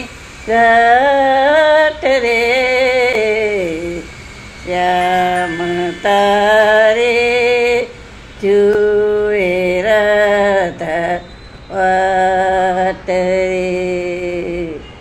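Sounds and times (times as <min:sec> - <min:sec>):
elderly woman singing: 0:00.0 - 0:15.0.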